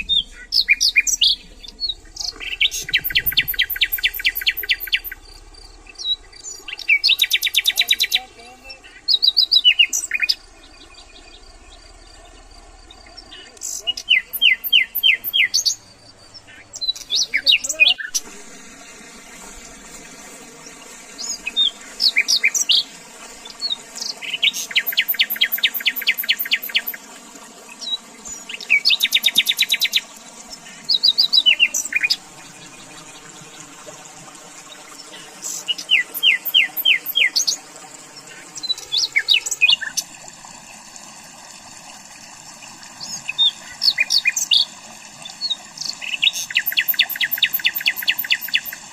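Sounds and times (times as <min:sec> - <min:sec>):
songbirds chirping and trilling: 0:00.0 - 0:41.1, 0:41.7 - 0:48.9.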